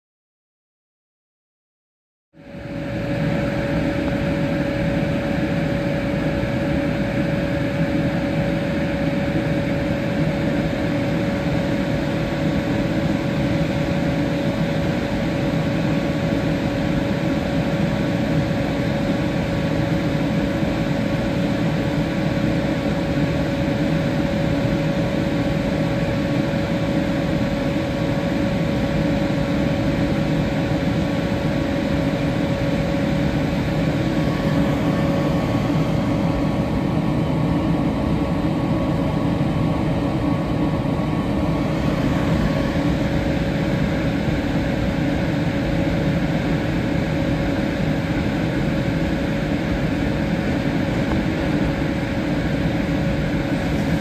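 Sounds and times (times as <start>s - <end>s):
locomotive cooling blowers humming: 2.4s - 54.0s.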